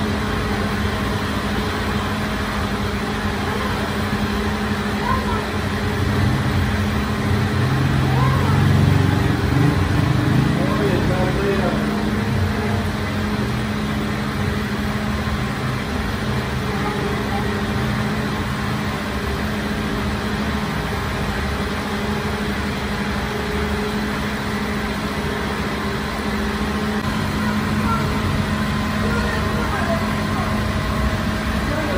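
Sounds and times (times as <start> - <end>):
bakery machinery motor hum: 0.0 - 31.9.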